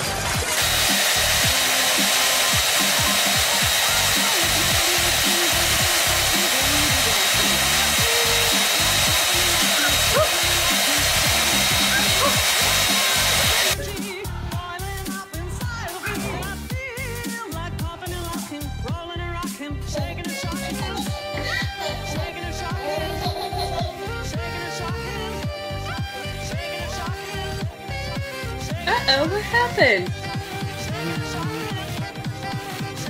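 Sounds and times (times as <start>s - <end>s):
hair dryer blowing: 0.0s - 14.0s, 20.4s - 33.0s
background music: 0.0s - 33.0s.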